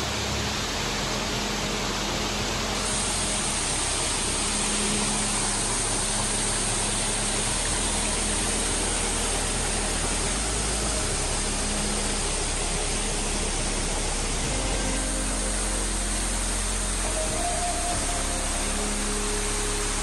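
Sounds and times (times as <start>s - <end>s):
small water cascade: 0.0s - 20.0s
waterfall rushing: 0.0s - 20.0s.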